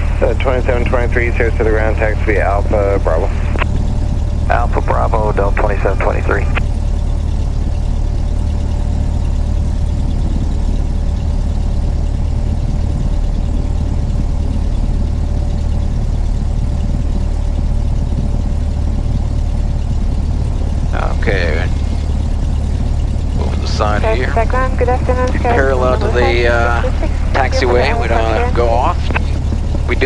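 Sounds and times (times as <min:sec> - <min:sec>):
faint steady whine: 0:00.0 - 0:30.0
piston aircraft engine drone: 0:00.0 - 0:30.0.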